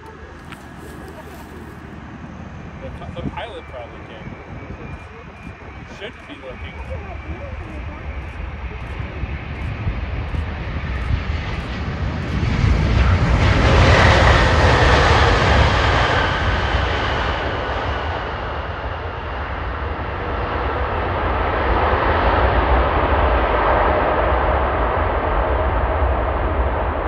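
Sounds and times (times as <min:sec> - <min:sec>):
jet engine rush with whine: 0:00.0 - 0:27.0.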